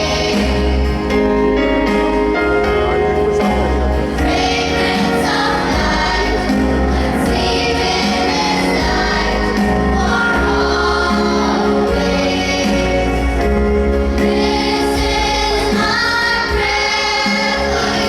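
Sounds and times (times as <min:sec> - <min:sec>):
choir singing a hymn: 0:00.0 - 0:18.0
instrumental accompaniment: 0:00.0 - 0:18.0
steady bass line: 0:00.0 - 0:18.0.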